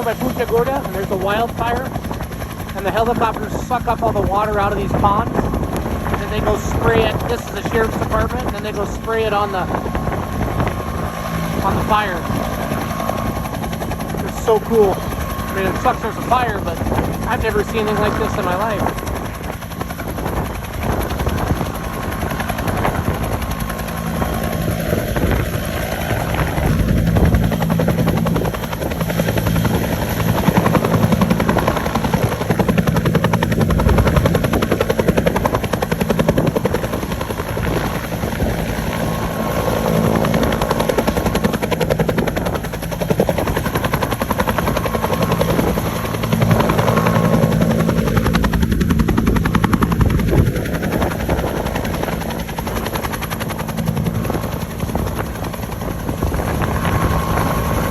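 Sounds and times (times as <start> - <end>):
helicopter rotor and engine: 0.0 - 57.9.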